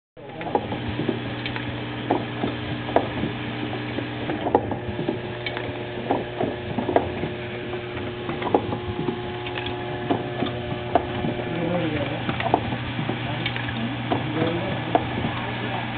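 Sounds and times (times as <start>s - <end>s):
filling machine humming: 0.2s - 15.9s.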